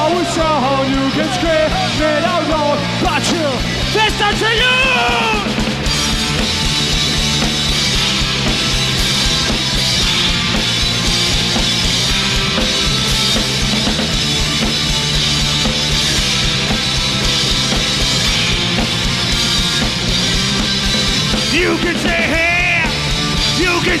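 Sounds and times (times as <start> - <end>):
punk rock band playing live: 0.0 - 24.0.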